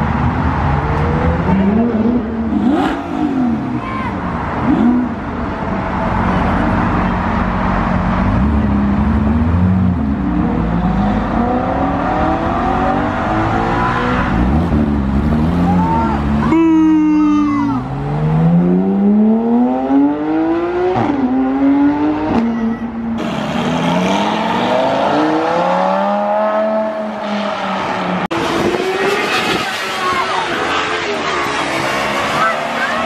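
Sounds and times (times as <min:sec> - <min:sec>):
car engines revving and accelerating: 0:00.0 - 0:33.0.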